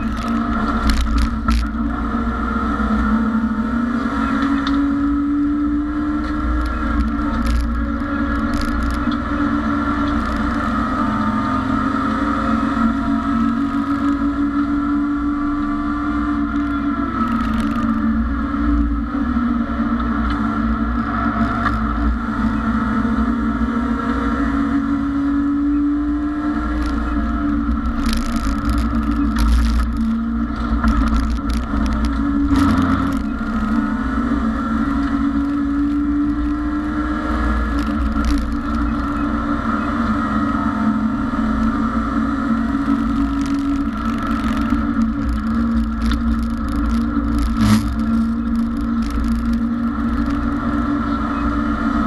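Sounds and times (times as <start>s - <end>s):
low rumble of road and wind: 0.0s - 52.0s
race car engine running: 0.0s - 52.0s.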